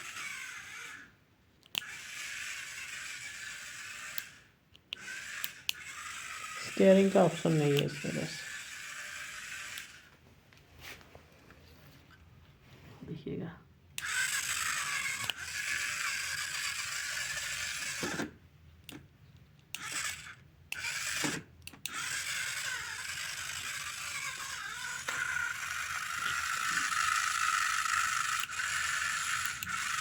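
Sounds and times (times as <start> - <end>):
small electric motor whirring: 0.0 - 10.2, 14.0 - 19.0, 19.7 - 30.0.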